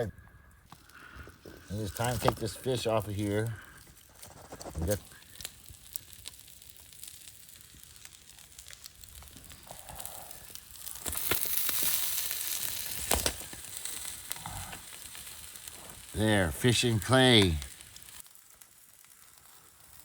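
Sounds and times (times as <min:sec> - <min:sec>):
campfire crackling and popping: 0:00.0 - 0:20.0
sizzling hiss: 0:00.7 - 0:20.0.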